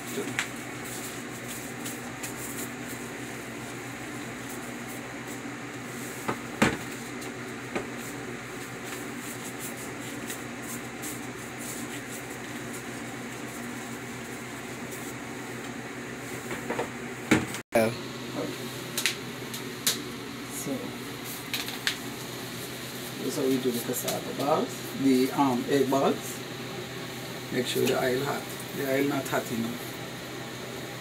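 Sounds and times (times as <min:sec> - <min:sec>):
appliance or fan humming: 0:00.0 - 0:31.0.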